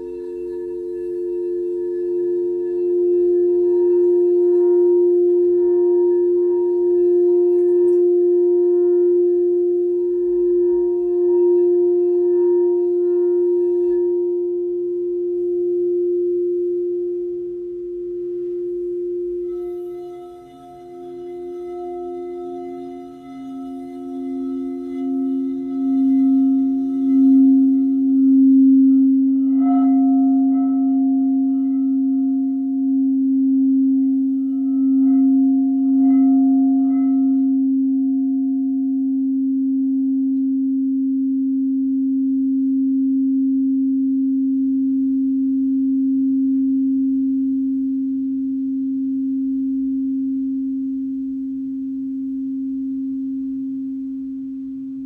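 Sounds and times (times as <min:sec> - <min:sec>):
singing bowl ringing: 0:00.0 - 0:55.0.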